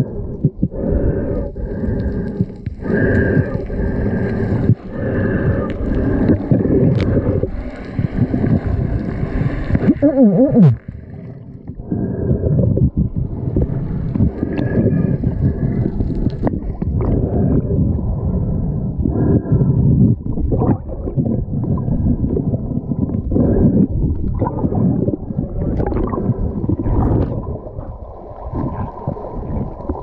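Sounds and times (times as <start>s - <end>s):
water sloshing and gurgling: 0.0s - 30.0s.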